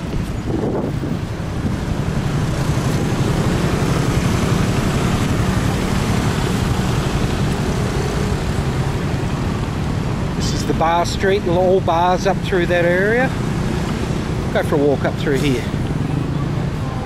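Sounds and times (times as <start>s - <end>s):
motorcycles and scooters passing: 0.0s - 10.6s, 11.5s - 17.0s.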